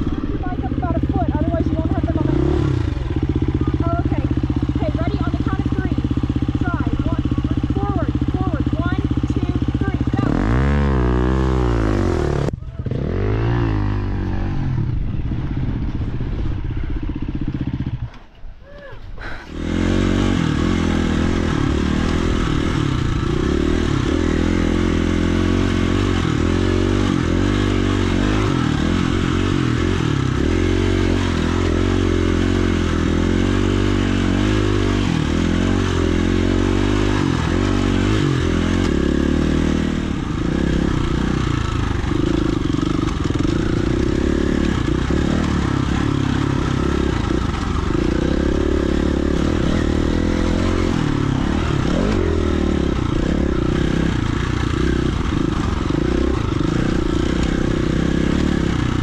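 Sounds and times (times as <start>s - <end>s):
dirt bike engine revving: 0.0s - 18.3s, 19.3s - 59.0s.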